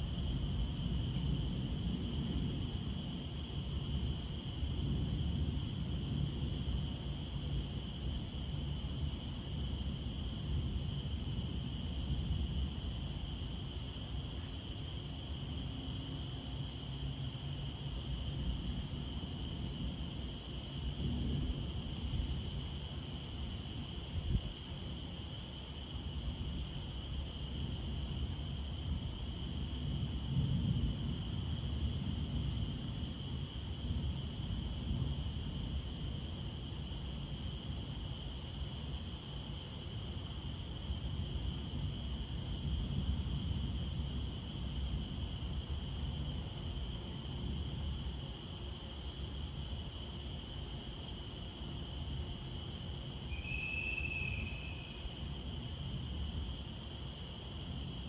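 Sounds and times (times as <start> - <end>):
crickets chirring: 0.0 - 58.0.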